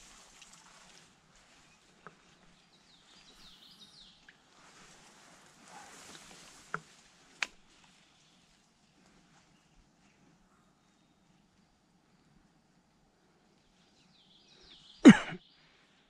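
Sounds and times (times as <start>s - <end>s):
faint creekside ambience: 0.0s - 16.0s.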